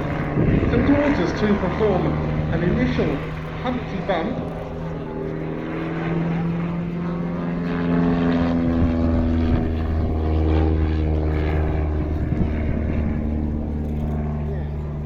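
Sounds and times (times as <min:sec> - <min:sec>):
propeller plane engine in flight: 0:00.0 - 0:15.0.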